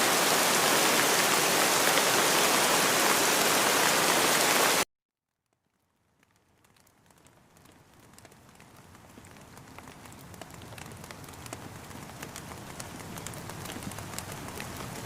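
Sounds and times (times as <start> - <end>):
rain drops tapping: 0.0 - 4.8, 5.6 - 15.0.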